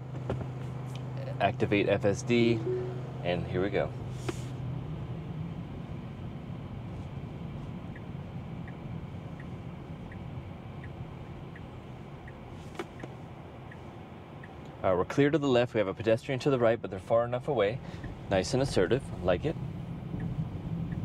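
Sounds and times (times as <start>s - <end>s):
turn signal ticking: 0.0s - 14.9s, 17.8s - 21.0s
road and tyre noise: 0.0s - 21.0s.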